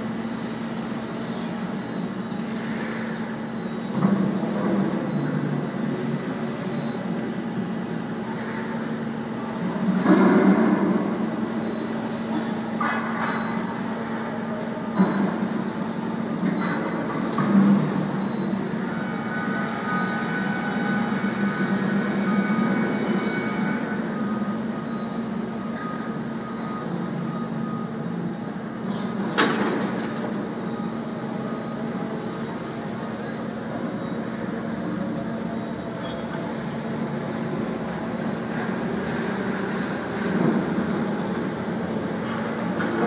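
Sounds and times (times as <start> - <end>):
electric forklifts humming: 0.0 - 43.0.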